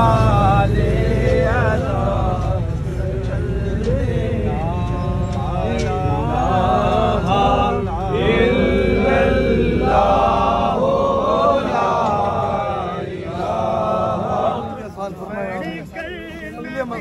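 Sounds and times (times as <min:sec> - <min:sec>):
man chanting melodically: 0:00.0 - 0:10.8, 0:11.6 - 0:17.0
low steady rumble: 0:00.0 - 0:17.0.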